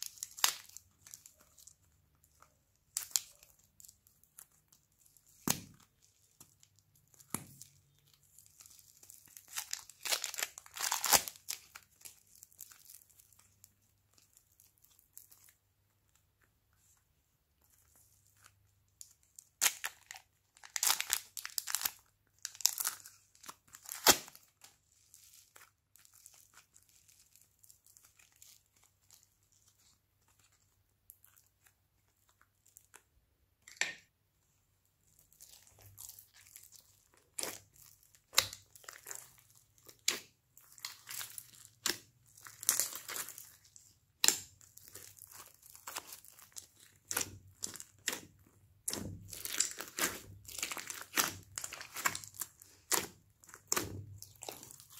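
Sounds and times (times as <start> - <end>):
plastic wrappers crinkling and tearing: 0.0 - 17.0, 17.6 - 33.1, 35.0 - 54.9.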